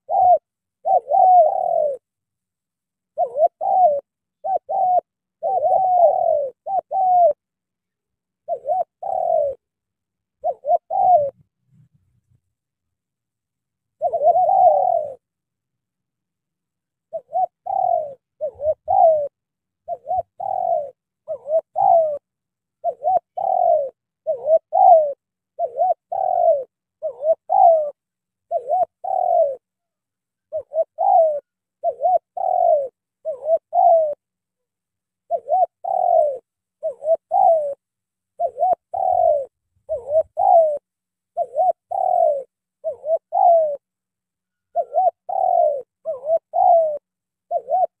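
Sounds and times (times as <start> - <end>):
dove cooing: 0.0 - 2.3, 3.0 - 12.5, 13.9 - 15.4, 16.8 - 48.0.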